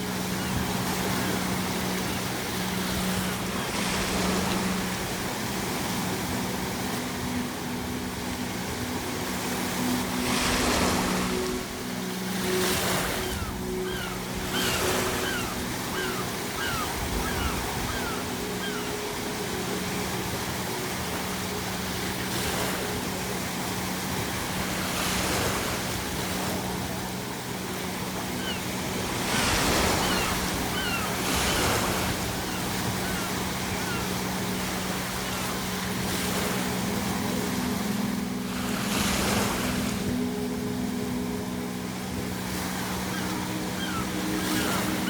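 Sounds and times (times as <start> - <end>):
sea waves breaking: 0.0 - 45.0
seagulls calling: 0.0 - 45.0.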